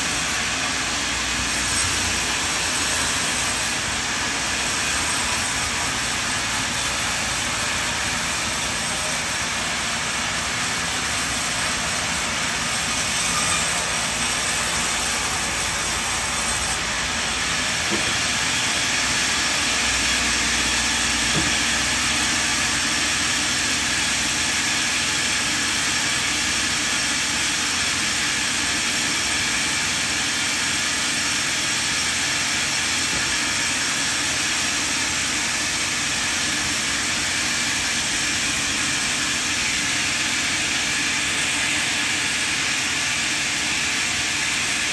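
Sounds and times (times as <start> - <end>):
band saw ripping through log: 0.0 - 44.9.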